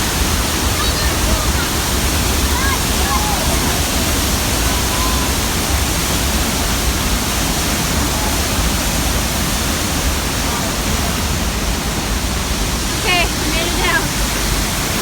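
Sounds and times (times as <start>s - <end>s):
large waterfall roaring: 0.0s - 15.0s.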